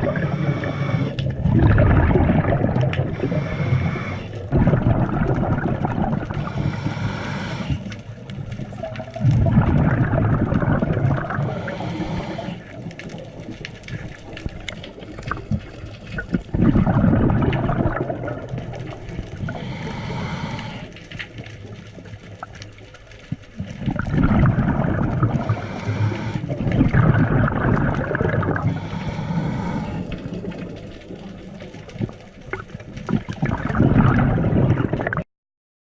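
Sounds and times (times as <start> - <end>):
seawater sloshing and bubbling: 0.0 - 35.2.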